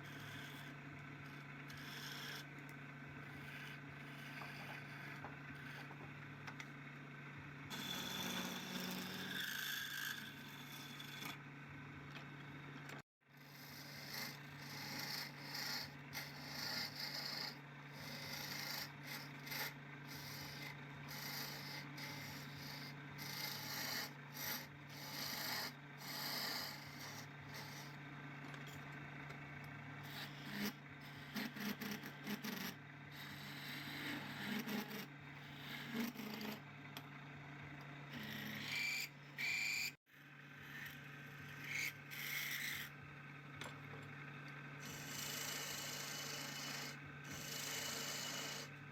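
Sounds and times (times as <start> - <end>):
low motor hum: 0.0 - 48.9.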